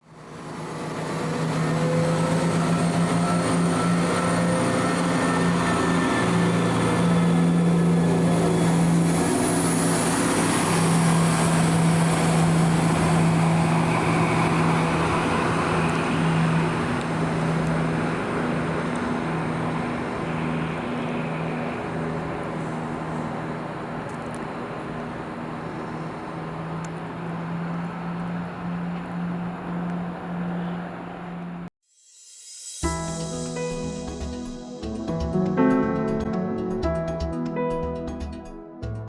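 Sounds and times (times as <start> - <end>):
diesel train engine droning: 0.0 - 31.7.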